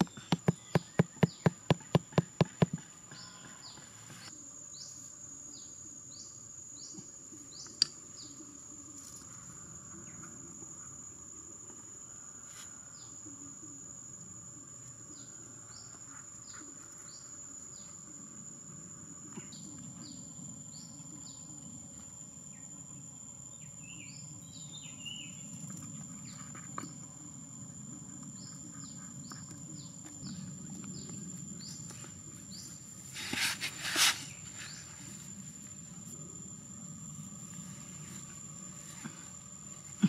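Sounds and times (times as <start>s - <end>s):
insect drone: 0.0s - 40.0s.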